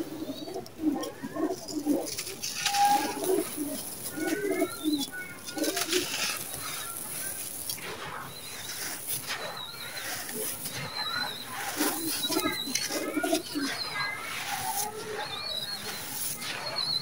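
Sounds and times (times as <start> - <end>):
birds cooing: 0.0 - 17.0
bird chirps: 0.2 - 17.0
grit trickling down: 0.5 - 16.9
gritty chunks crunching in hands: 1.0 - 17.0.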